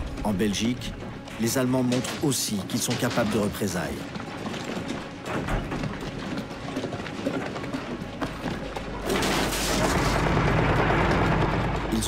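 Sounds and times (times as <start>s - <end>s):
scuffing footsteps: 0.0s - 10.0s
wooden knocks and clatter: 0.0s - 12.0s.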